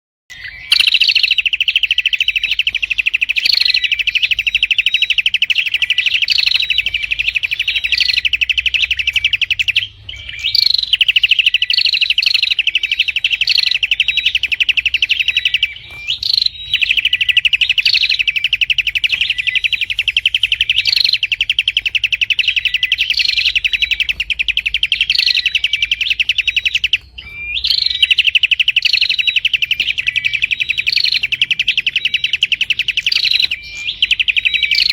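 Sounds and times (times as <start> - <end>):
bird chattering chirps: 0.3 - 34.9.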